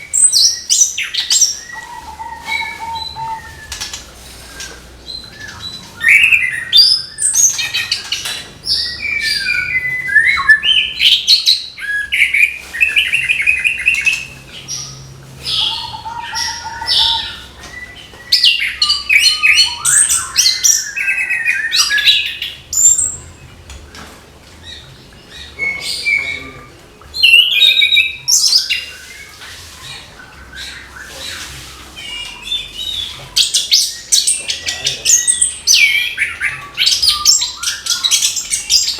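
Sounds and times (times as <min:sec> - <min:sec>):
thrush singing whistled song: 0:00.0 - 0:23.6, 0:25.2 - 0:38.9.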